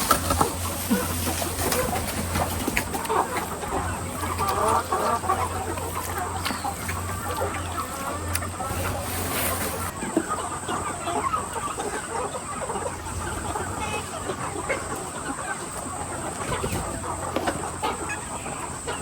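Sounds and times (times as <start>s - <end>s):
chickens clucking and calling: 0.0s - 19.0s
steady low hum: 0.0s - 19.0s.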